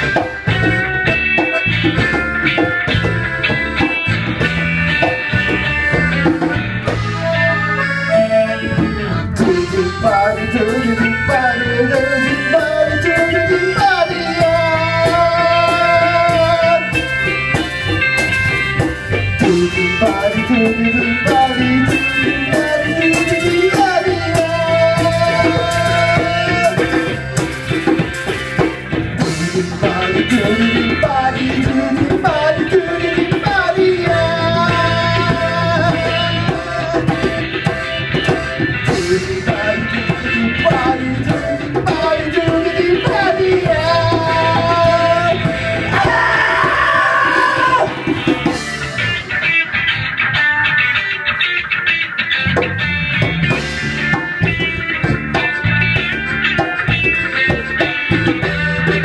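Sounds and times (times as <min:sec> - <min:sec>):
sliding melody line: 0:00.0 - 0:51.0
live band playing: 0:00.0 - 0:59.0.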